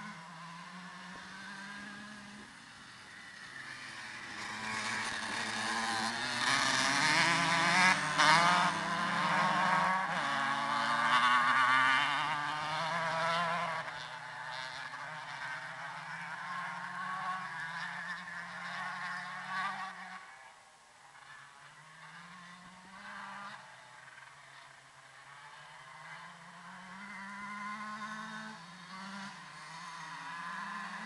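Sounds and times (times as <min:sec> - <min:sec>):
dirt bike engines revving: 0:00.0 - 0:20.5, 0:21.1 - 0:31.0.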